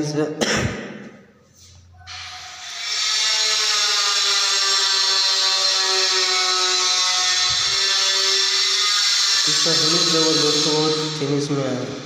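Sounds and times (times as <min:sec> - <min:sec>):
power tool whining: 0:02.1 - 0:12.0.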